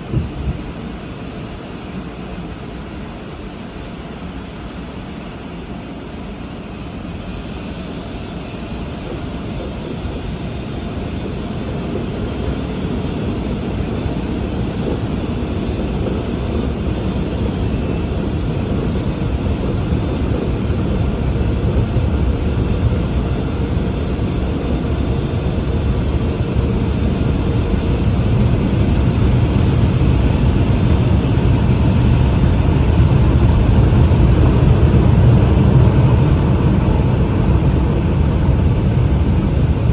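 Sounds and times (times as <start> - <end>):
car wash machinery roar: 0.0 - 39.9.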